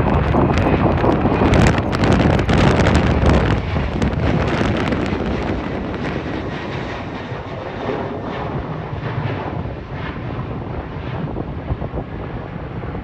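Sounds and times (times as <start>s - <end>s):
jet engines roaring: 0.0s - 13.0s
wind buffeting microphone: 0.0s - 13.0s.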